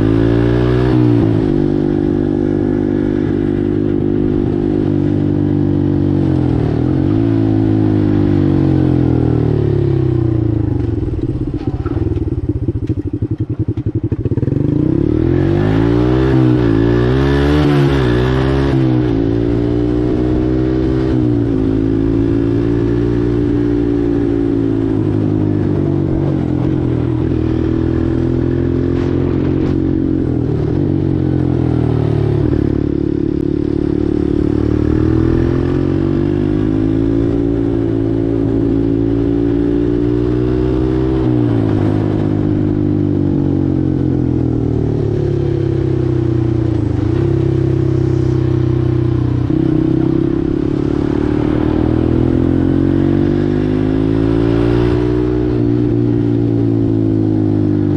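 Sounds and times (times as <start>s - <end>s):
atv engine revving: 0.0s - 57.9s.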